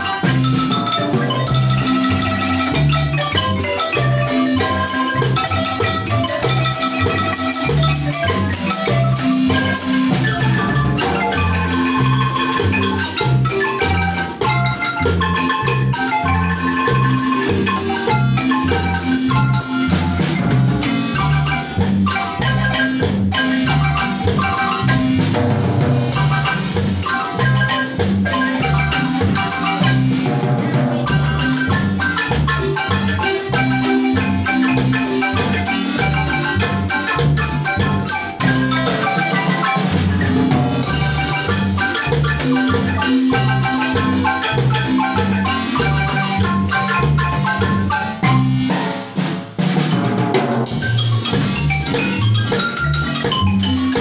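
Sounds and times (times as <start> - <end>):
drum kit: 0.0 - 54.0
marimba ensemble music: 0.0 - 54.0.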